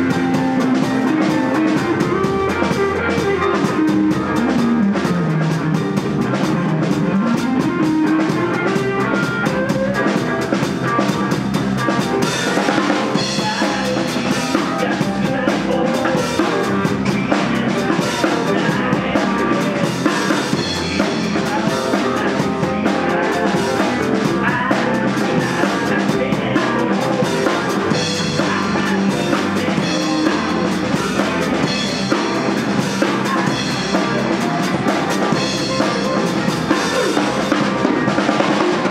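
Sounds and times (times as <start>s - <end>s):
drum kit beat: 0.0s - 38.9s
electric guitars: 0.0s - 38.9s.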